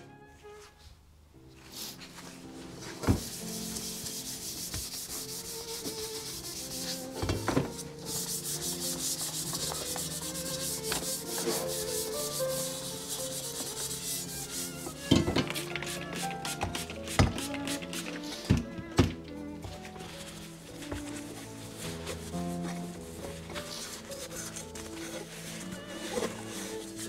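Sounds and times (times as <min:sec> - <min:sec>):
scuff pad scrubbing metal tube: 0:02.9 - 0:18.6, 0:19.6 - 0:27.0.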